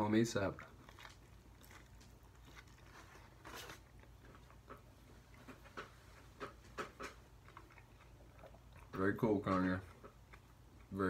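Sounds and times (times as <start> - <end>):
low steady hum: 0.0 - 11.0
person chewing food: 0.4 - 11.0.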